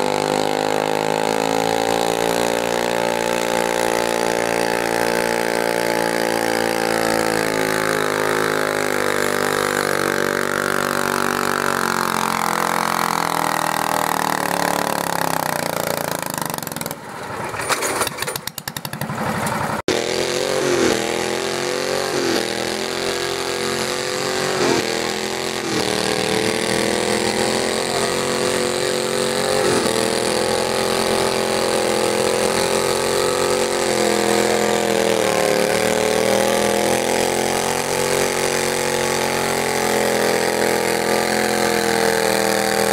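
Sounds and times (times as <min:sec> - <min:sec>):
garden tractor engine running: 0:00.0 - 0:42.9.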